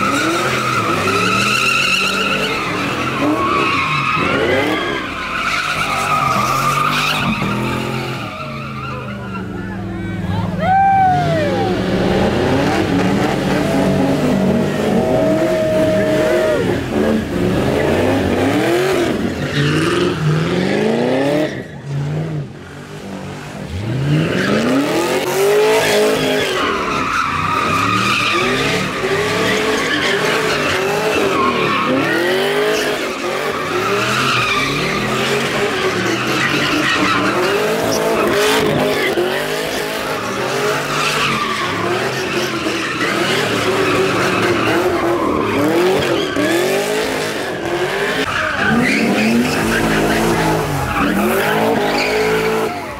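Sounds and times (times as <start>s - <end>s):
car engine revving: 0.0s - 10.5s, 11.4s - 52.9s
tires squealing: 0.0s - 52.9s.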